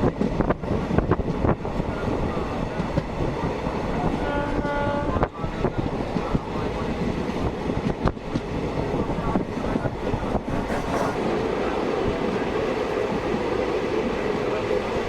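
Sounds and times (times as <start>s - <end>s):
train coach rumbling on track: 0.0s - 15.0s.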